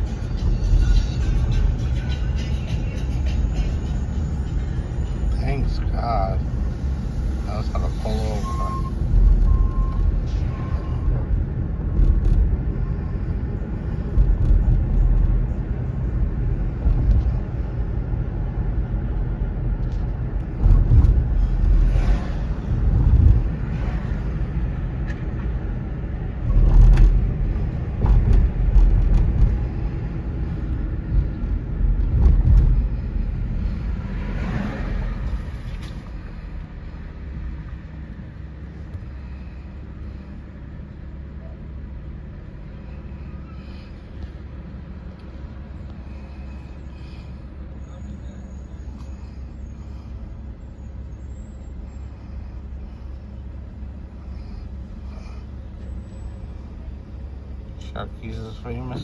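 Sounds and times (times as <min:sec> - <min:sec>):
engine and tyre rumble: 0:00.0 - 0:59.0.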